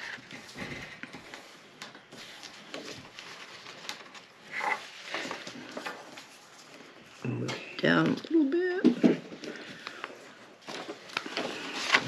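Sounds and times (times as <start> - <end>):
paper tapping and rustling: 0.0 - 6.8, 8.9 - 12.0.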